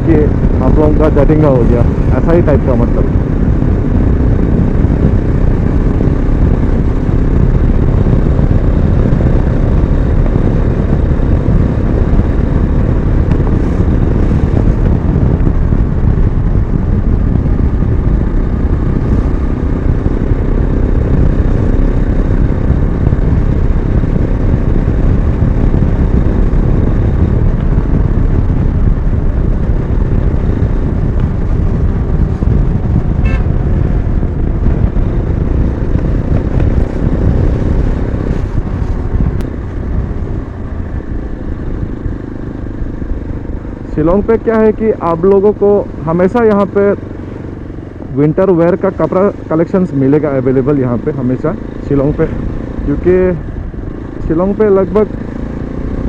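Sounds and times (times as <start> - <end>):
low rumble of riding noise: 0.0 - 56.0
motorcycle engine running: 0.0 - 56.0.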